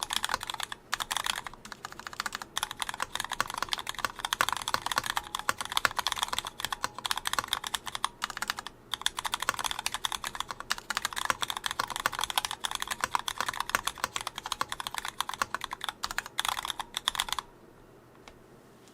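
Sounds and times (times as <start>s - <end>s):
fast typing on mechanical keyboard: 0.0s - 17.5s.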